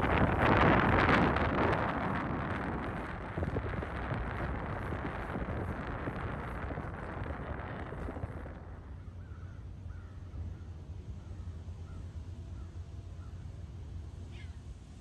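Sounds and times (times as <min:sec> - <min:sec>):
wind buffeting microphone: 0:00.0 - 0:14.0
low wind rumble: 0:00.0 - 0:15.0.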